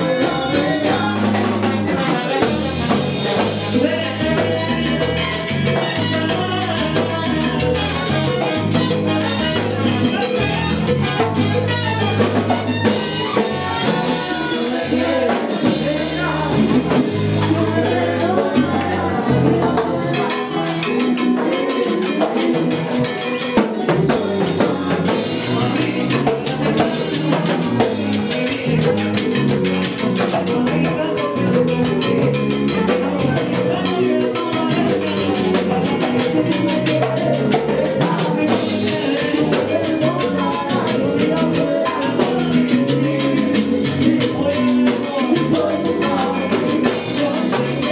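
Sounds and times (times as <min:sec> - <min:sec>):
drums and latin percussion: 0:00.0 - 0:47.9
salsa band playing: 0:00.0 - 0:47.9.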